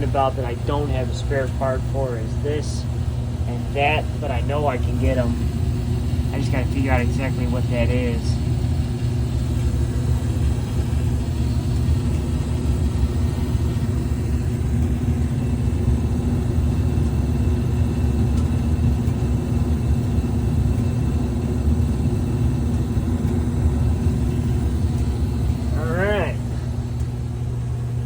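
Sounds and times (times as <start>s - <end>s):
furnace burner and blower rumbling: 0.0s - 28.0s.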